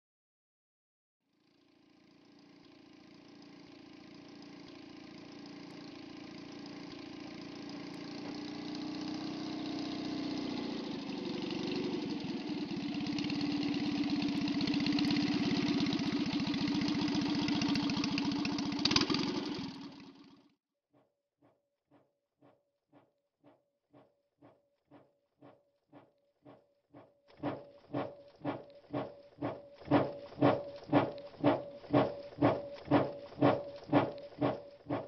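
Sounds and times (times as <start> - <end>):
motorcycle engine running: 1.3 - 20.5, 25.4 - 35.0.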